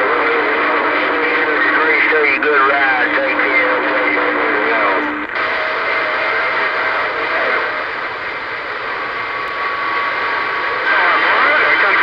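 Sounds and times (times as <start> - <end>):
radio hiss and static: 0.0 - 12.0.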